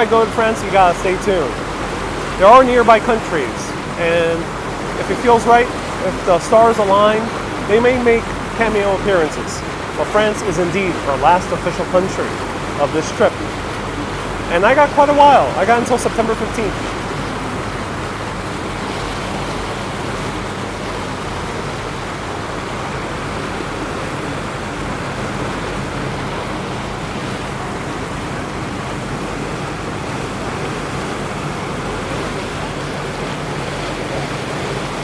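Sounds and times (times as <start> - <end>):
low engine hum: 0.0 - 35.0
water rushing: 0.0 - 35.0.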